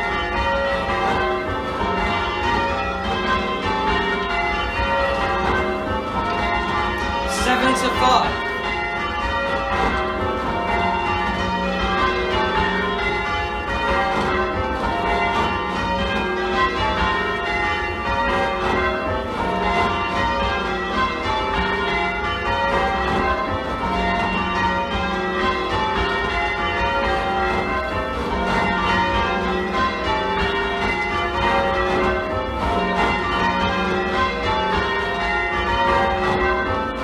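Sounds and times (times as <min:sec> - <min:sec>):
church bells change ringing: 0:00.0 - 0:37.0.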